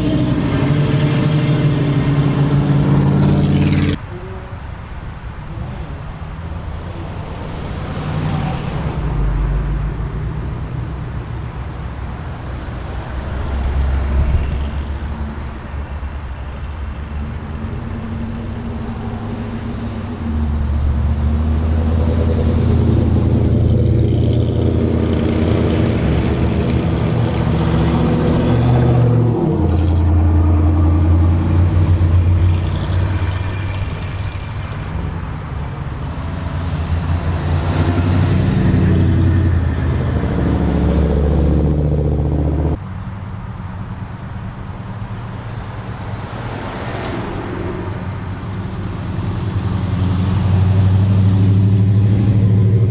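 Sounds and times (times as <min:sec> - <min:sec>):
car engines humming: 0:00.0 - 0:52.9.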